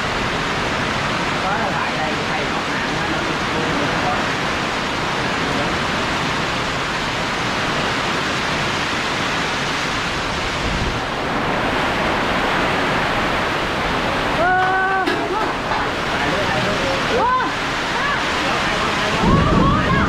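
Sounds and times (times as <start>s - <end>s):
pouring rain in strong wind: 0.0s - 20.0s.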